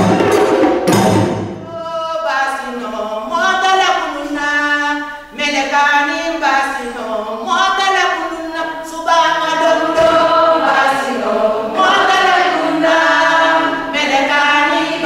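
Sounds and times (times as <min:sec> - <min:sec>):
group singing a cappella: 0:01.6 - 0:15.0.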